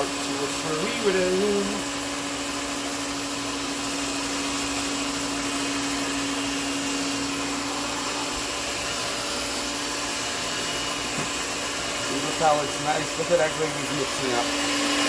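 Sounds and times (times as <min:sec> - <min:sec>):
electric hand mixer humming: 0:00.0 - 0:15.0.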